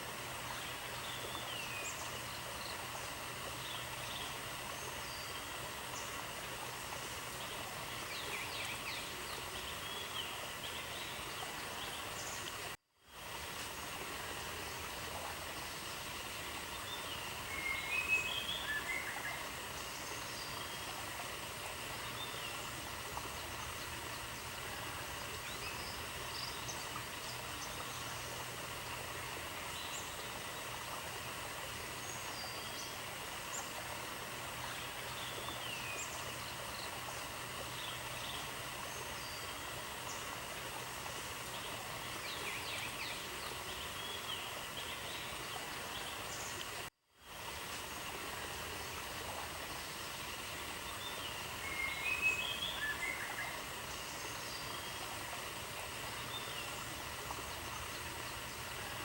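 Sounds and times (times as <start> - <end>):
outdoor background hiss: 0.0 - 59.0.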